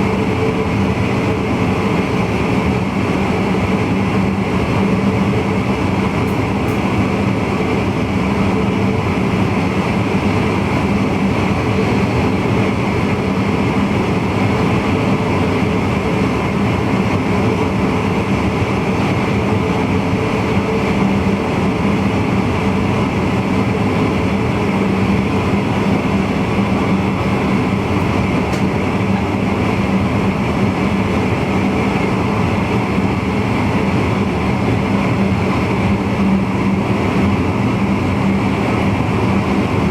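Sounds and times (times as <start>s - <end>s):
constant low hum: 0.0s - 39.9s
electric train running: 0.0s - 39.9s.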